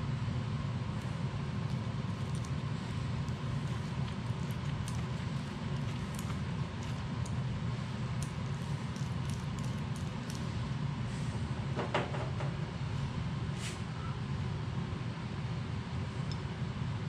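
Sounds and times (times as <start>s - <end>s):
low shop hum: 0.0s - 17.0s.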